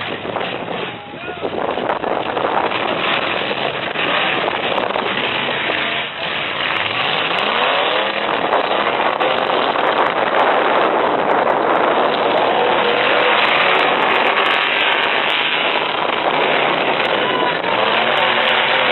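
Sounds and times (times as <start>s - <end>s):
truck engines running loud: 0.0s - 18.9s
engine revving up: 2.2s - 18.9s.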